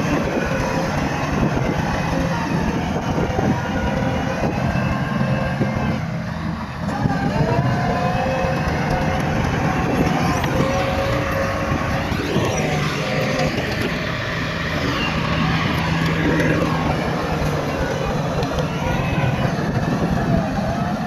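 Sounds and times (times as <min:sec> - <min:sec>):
bulldozer diesel engine running: 0:00.0 - 0:21.0
engine whine: 0:00.0 - 0:21.0.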